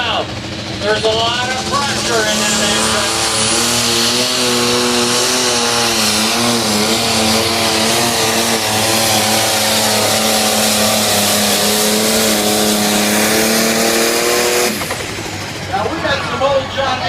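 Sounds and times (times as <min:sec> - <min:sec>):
diesel tractor engine under load: 0:00.0 - 0:17.0.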